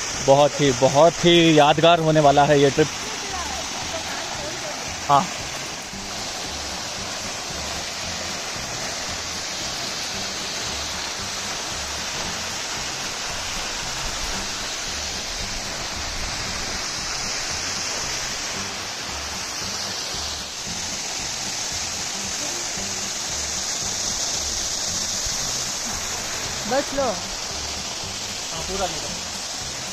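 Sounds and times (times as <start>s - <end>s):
music with low bass line: 0.0s - 29.9s
waterfall rushing: 0.0s - 29.9s.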